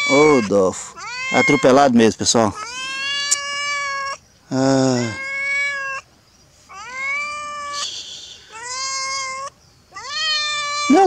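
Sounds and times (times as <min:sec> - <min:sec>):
cat meowing: 0:00.0 - 0:11.0.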